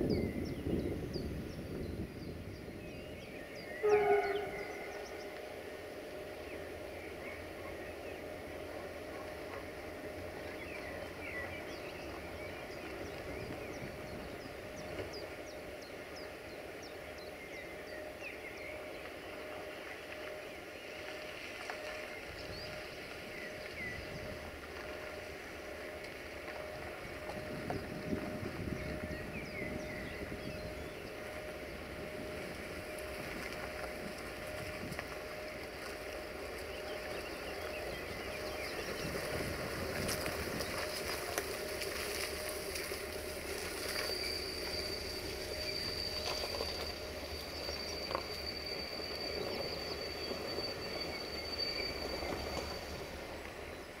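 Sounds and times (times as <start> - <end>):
birds chirping: 0.0 - 54.0
distant diesel locomotive drone: 0.0 - 54.0
lower gliding bird notes: 0.0 - 54.0
thin steady whine: 0.0 - 54.0.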